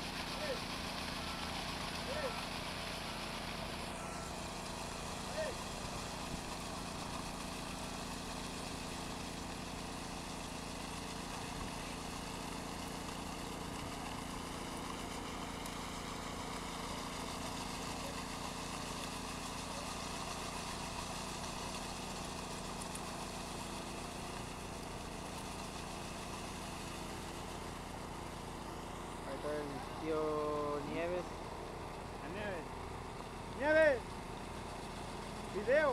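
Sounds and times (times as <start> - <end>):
power trowel engine running: 0.0 - 35.9.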